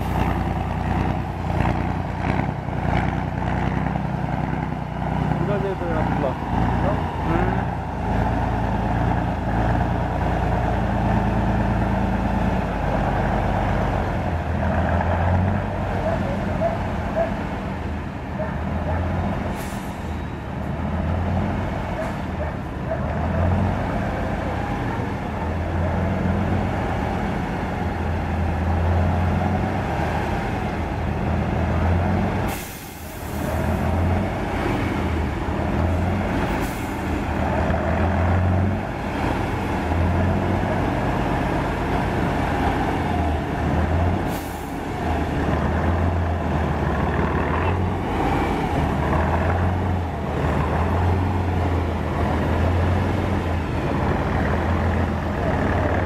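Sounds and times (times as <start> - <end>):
truck engine working: 0.0 - 56.0.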